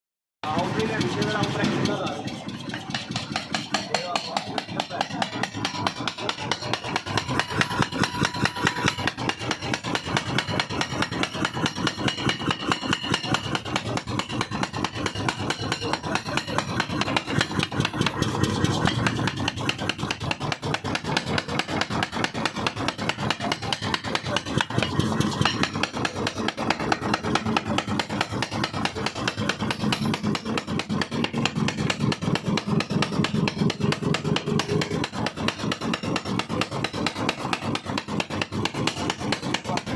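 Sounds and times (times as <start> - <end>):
power hammer striking metal rod: 0.4 - 39.9.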